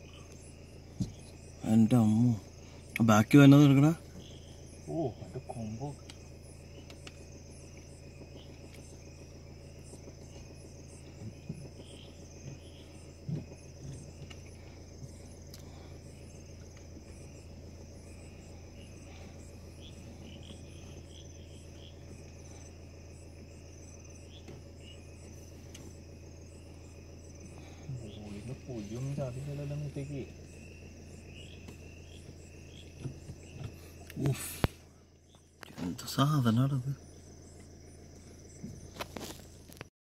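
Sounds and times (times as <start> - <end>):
crickets chirping: 0.0 - 39.9
low steady hum: 0.0 - 39.9.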